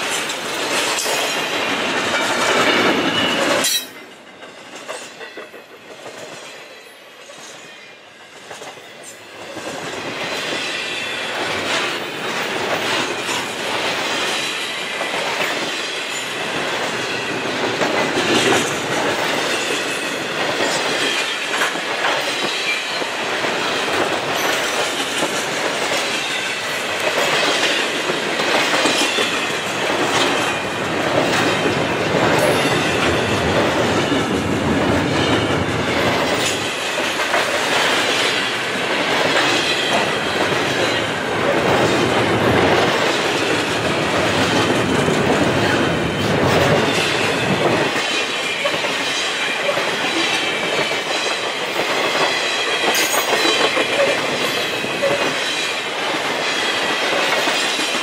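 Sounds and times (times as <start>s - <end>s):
freight train rumble: 0.0s - 58.0s.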